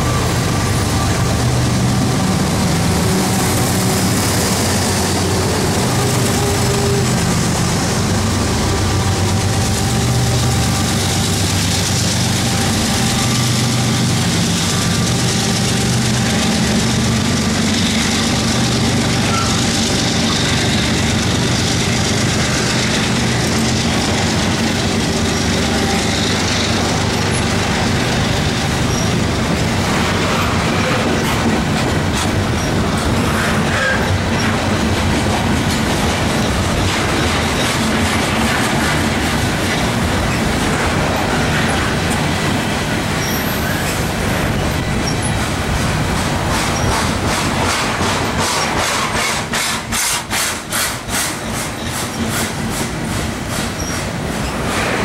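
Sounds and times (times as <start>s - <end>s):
diesel locomotive engine: 0.0s - 55.0s
freight cars rolling on rails: 0.0s - 55.0s.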